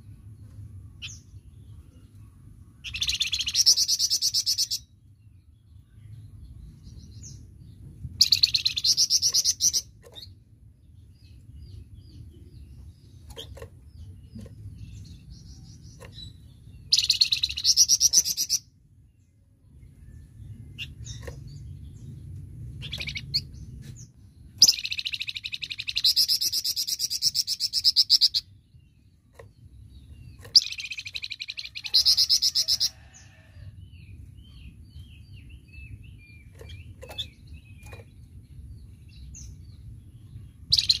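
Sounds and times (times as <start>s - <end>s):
low steady hum: 0.0s - 41.0s
soft bird chirps: 0.0s - 41.0s.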